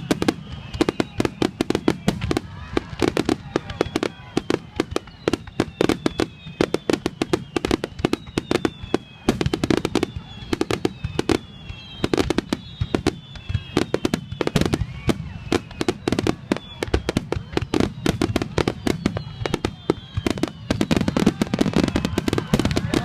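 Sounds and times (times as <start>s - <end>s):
fireworks bangs: 0.0s - 23.0s
fireworks whistling: 0.0s - 23.0s.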